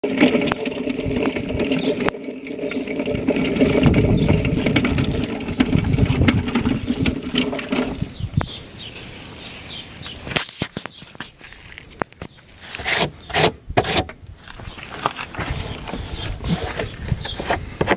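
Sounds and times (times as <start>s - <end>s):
birds chirping: 1.6s - 13.5s, 14.5s - 17.9s.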